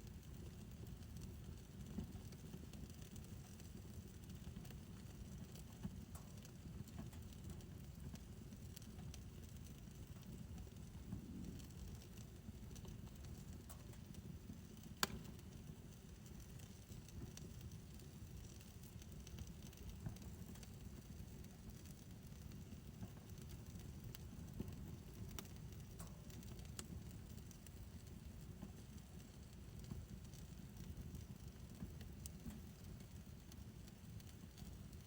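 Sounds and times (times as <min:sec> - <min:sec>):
fire crackling: 0:00.0 - 0:35.0
fire pit low rumble: 0:00.0 - 0:35.0.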